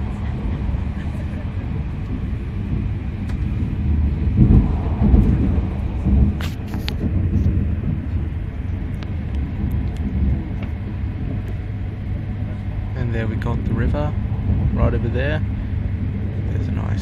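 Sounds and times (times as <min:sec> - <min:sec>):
train rumble from inside cabin: 0:00.0 - 0:17.0.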